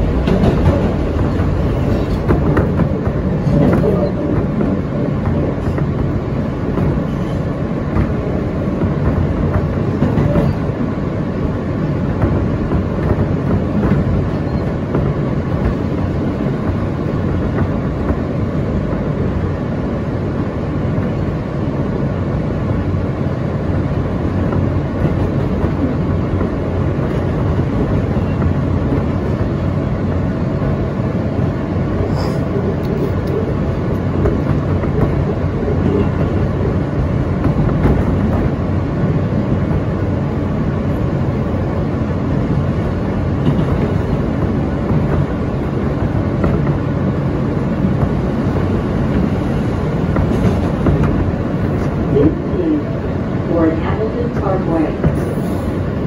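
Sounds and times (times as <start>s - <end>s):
subway train wheels rumbling on rail: 0.0s - 56.0s.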